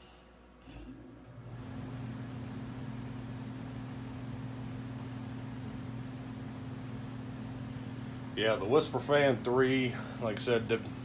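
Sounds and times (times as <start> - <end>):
ceiling fan motor buzzing: 0.6 - 11.0.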